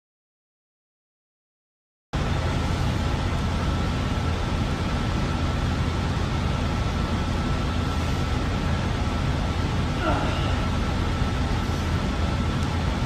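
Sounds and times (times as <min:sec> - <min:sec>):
faint steady whine: 0:02.2 - 0:13.0
low hum: 0:02.2 - 0:13.0.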